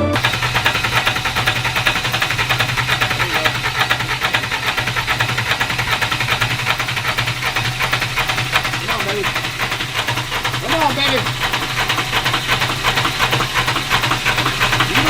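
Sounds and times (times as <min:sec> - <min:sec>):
diesel engine turning over chugging: 0:00.0 - 0:15.0.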